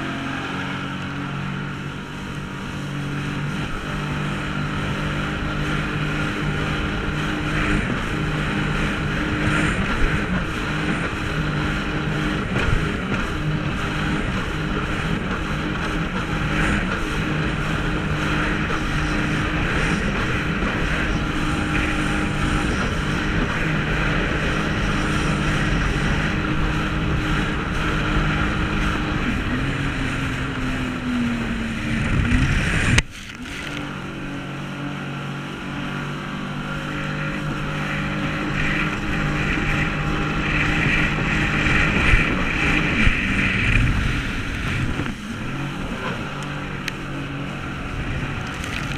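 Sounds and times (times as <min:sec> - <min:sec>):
jet ski engine running: 0:00.0 - 0:48.9
rushing water: 0:00.0 - 0:48.9
wind: 0:00.0 - 0:48.9.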